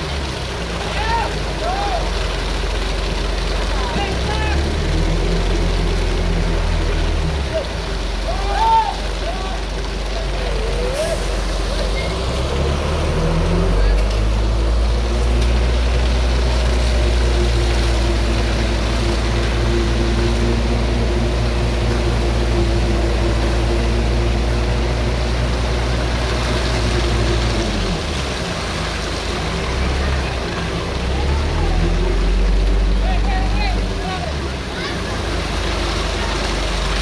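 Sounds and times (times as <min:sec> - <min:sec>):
heavy vehicle engine running: 0:00.0 - 0:37.0.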